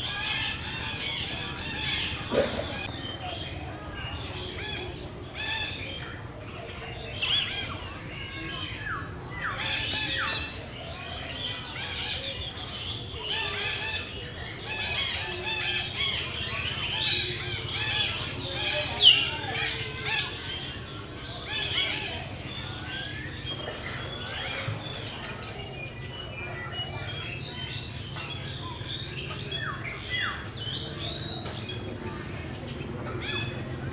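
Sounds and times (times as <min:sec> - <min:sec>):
birds chirping and calling: 0:00.0 - 0:33.9.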